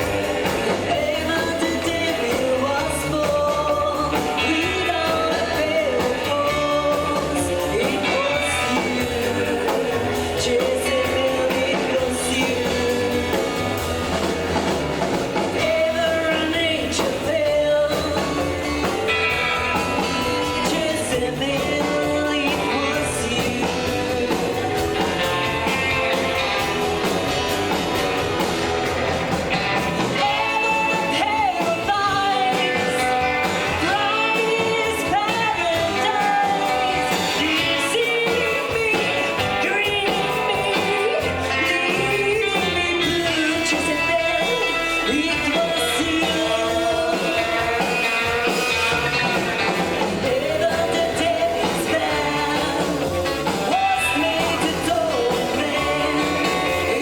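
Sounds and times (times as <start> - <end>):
lead vocalist singing: 0.0 - 57.0
rock and roll band playing: 0.0 - 57.0.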